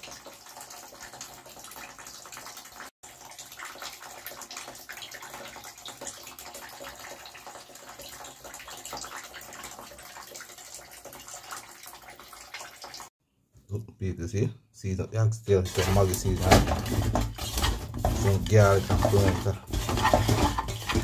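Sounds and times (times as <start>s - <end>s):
tap water running into sink: 0.0s - 13.1s, 15.7s - 21.0s.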